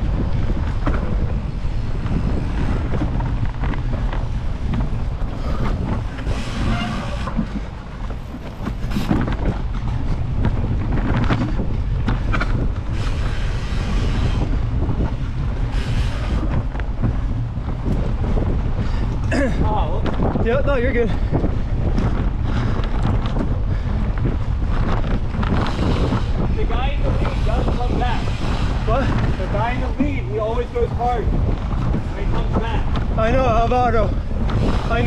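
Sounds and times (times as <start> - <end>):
bike rolling on dirt: 0.0 - 35.0
wind buffeting microphone: 0.0 - 35.0.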